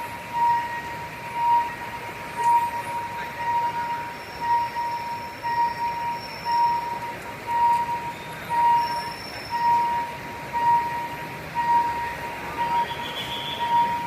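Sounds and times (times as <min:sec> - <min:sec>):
level crossing warning tone: 0:00.0 - 0:14.0.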